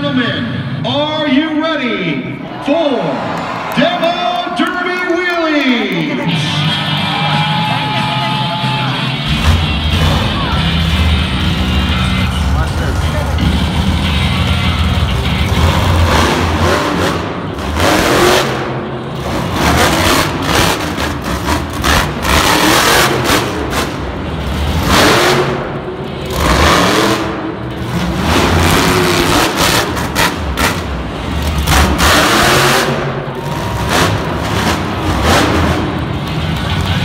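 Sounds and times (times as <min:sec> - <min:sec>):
truck engines revving hard: 0:00.0 - 0:37.0.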